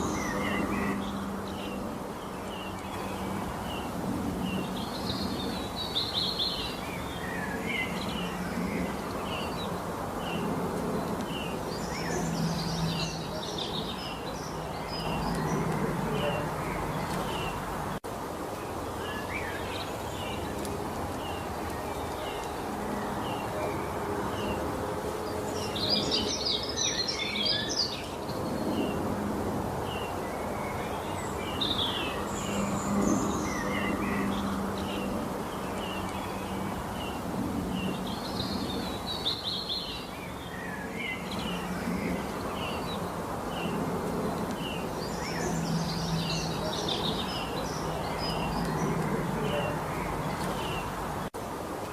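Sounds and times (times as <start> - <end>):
birds twittering song: 0.0 - 51.9.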